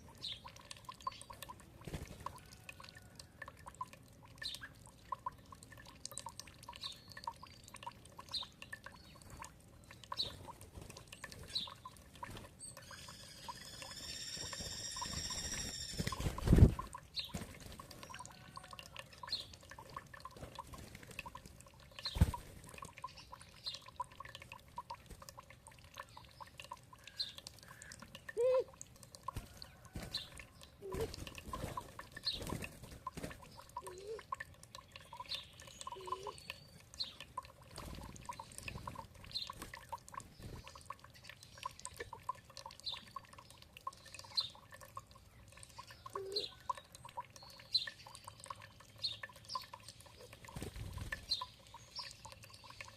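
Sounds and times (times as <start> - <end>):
water dripping and trickling: 0.0 - 52.9
songbirds chirping: 0.1 - 1.6, 2.3 - 52.9.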